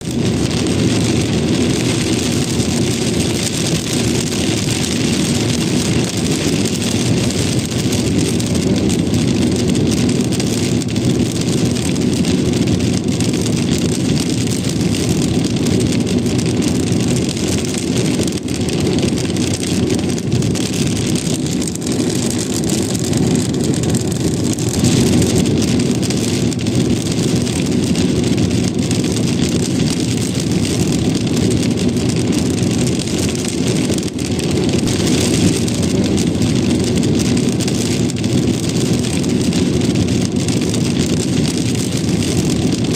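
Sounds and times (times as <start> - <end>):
rain tapping on a car: 0.0 - 42.9
road and engine rumble: 0.0 - 42.9.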